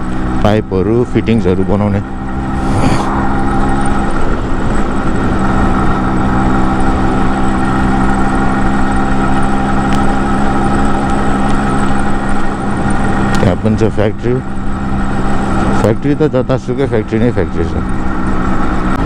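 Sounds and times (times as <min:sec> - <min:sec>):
motorcycle engine running steadily: 0:00.0 - 0:02.6, 0:03.3 - 0:19.0.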